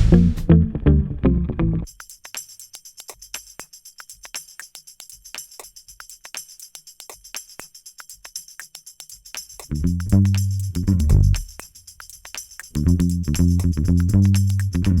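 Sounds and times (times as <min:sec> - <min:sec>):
jingling percussion beat: 0:01.9 - 0:15.0.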